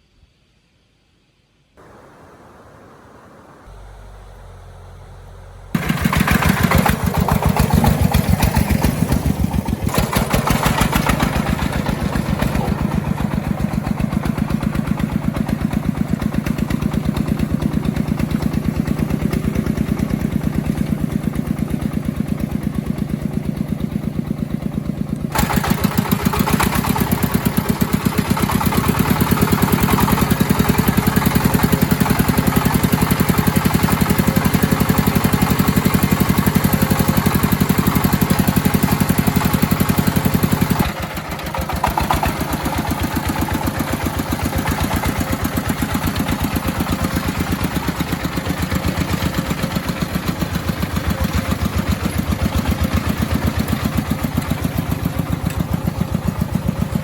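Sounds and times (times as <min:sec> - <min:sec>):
agricultural vehicle engine running: 0:01.8 - 0:57.0.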